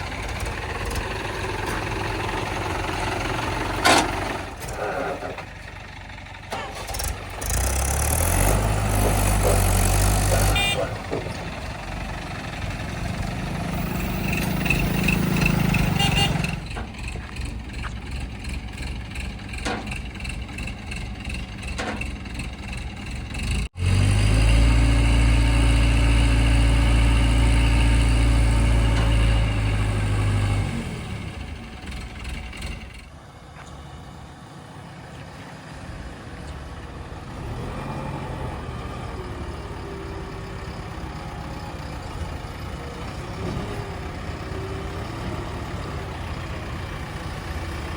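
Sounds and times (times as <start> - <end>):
heavy diesel engines running: 0.0 - 47.9.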